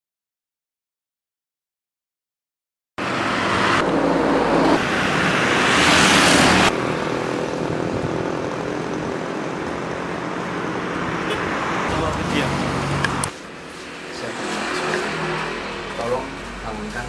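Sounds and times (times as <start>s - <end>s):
road traffic: 3.0s - 17.0s
vehicle passing loudly: 3.0s - 17.0s.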